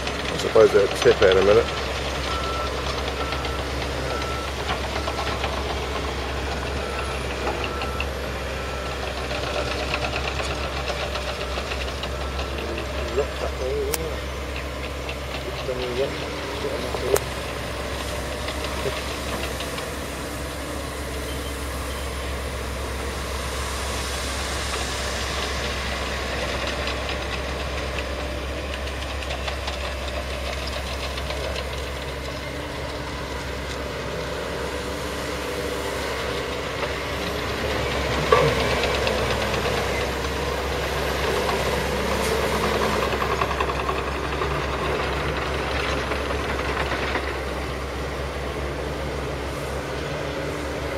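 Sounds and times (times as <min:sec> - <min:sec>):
diesel engine drone: 0:00.0 - 0:50.9.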